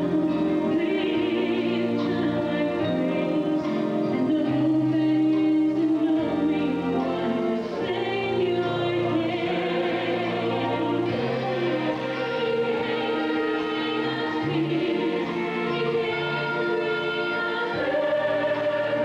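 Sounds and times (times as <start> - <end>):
musical accompaniment: 0.0 - 19.0
woman singing into microphone: 0.0 - 19.0.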